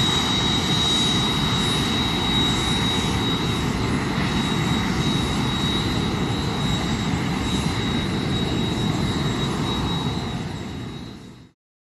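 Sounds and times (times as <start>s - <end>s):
helicopter rotor rumble: 0.0s - 11.6s
helicopter turbine whine: 0.0s - 11.6s.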